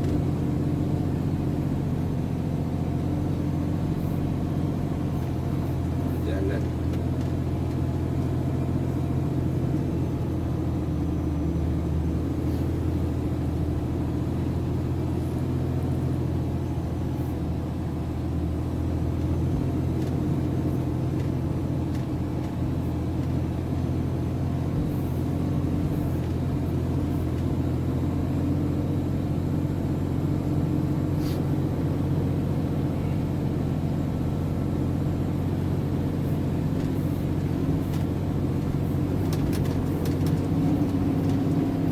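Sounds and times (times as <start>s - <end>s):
truck diesel engine droning: 0.0s - 41.9s.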